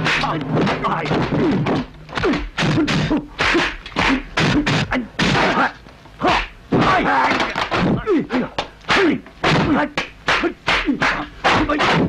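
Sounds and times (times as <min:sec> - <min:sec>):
fighters grunting and shouting: 0:00.0 - 0:12.0.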